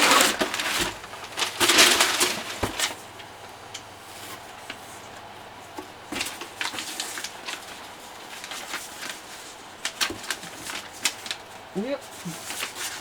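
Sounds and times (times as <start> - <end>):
paper and plastic rustling: 0.0 - 13.0.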